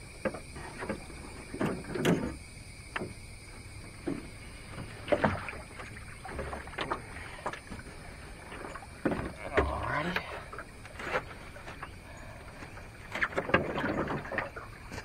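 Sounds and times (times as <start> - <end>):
footsteps and thumps in boat: 0.0 - 15.0.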